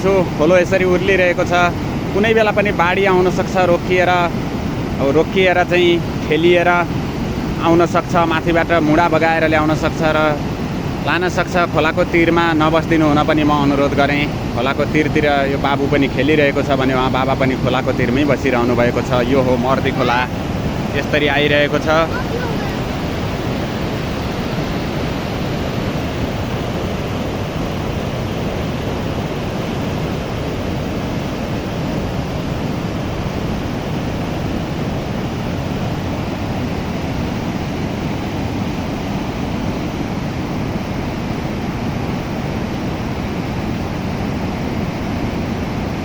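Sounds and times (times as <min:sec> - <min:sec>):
river rushing torrent: 0:00.0 - 0:46.0.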